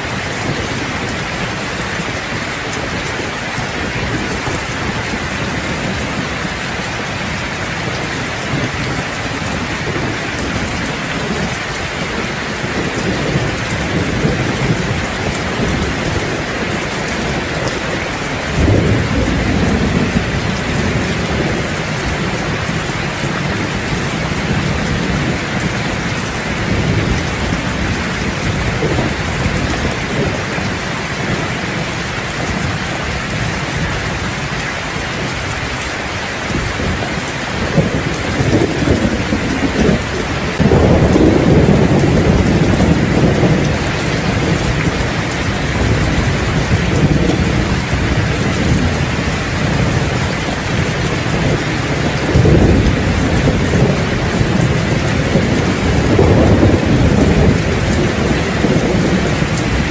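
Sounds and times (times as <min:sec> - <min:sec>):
heavy rain on a roof: 0:00.0 - 0:59.9
thunder rumbling: 0:00.0 - 0:59.9.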